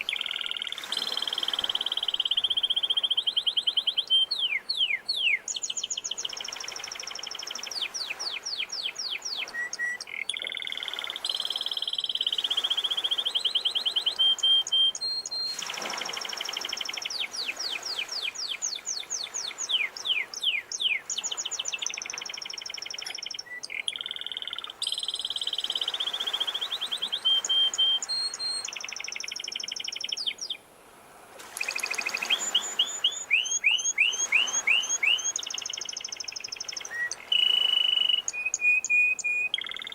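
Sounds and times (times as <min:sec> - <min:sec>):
sea waves washing: 0:00.0 - 0:03.2, 0:06.2 - 0:23.4, 0:24.6 - 0:29.9, 0:30.8 - 0:38.5
canary singing trills: 0:00.0 - 0:30.6, 0:31.6 - 0:39.9.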